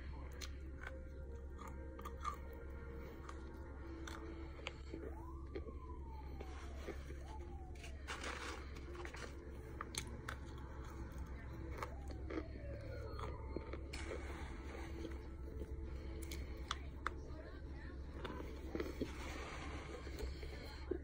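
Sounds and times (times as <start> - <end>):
starch chunks crunching: 0.0 - 21.0.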